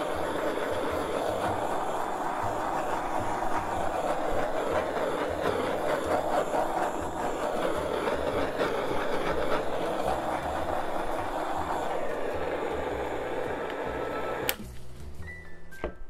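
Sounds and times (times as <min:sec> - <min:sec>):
torch flame hissing: 0:00.0 - 0:14.7.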